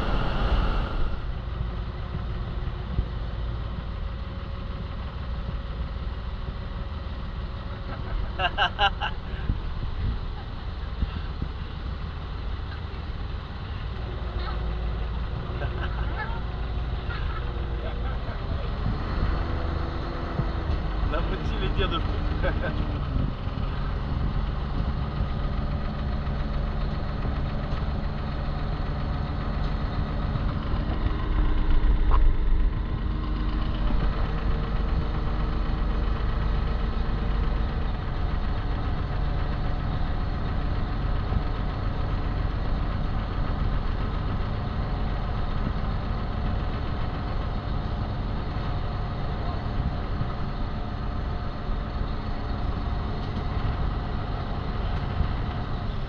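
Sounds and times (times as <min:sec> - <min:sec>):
boat engine running: 0:00.0 - 0:04.4, 0:07.6 - 0:56.0.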